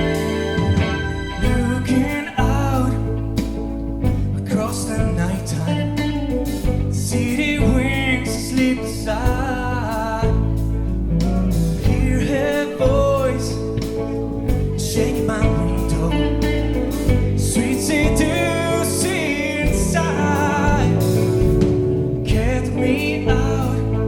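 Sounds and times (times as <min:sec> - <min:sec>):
person singing lead melody: 0:00.0 - 0:06.3, 0:06.9 - 0:10.9, 0:11.6 - 0:24.0
drums and cymbals: 0:00.0 - 0:24.0
live rock band playing ballad: 0:00.0 - 0:24.0.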